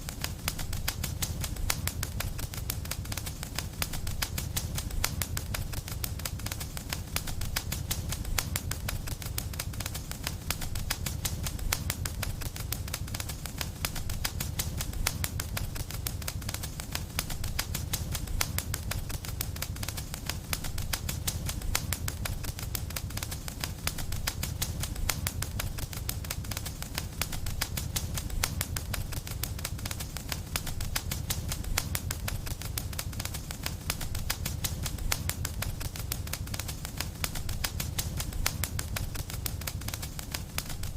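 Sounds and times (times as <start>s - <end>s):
fire crackling in fireplace: 0.0s - 40.9s.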